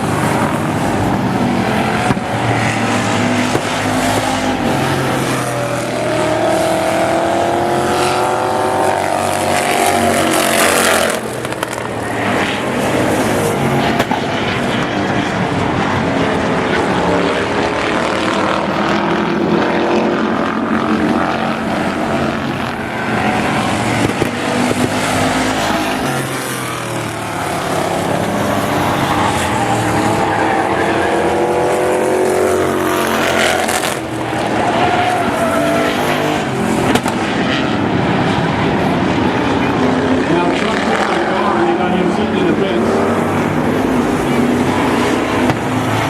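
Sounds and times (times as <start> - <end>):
cars racing engines revving: 0.0 - 46.0.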